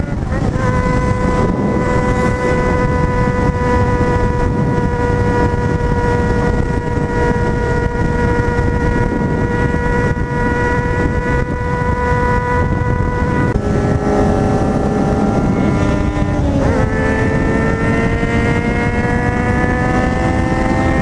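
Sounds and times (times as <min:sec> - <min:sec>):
motorcycle engine cruising: 0:00.0 - 0:21.0
wind rushing over microphone: 0:00.0 - 0:21.0.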